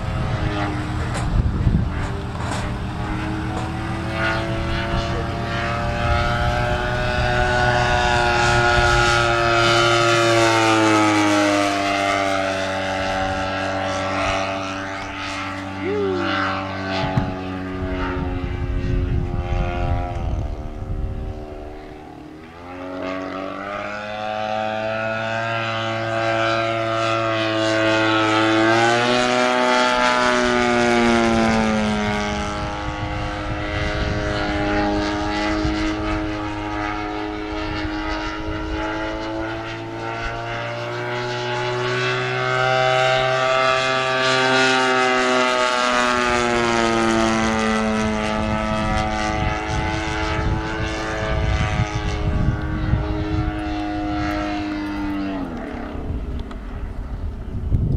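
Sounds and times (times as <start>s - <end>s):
model plane engine and propeller: 0.0s - 57.9s.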